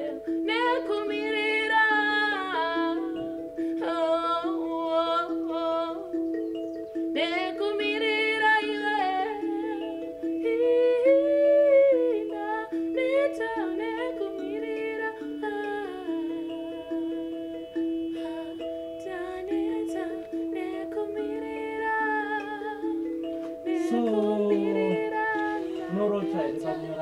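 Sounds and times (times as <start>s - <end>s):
woman singing with vibrato: 0.0s - 6.3s, 7.1s - 27.0s.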